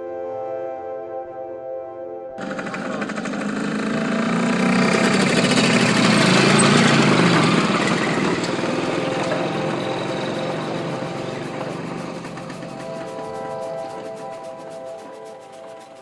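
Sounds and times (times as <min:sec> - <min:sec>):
motorcycle riding past: 0:02.4 - 0:16.0.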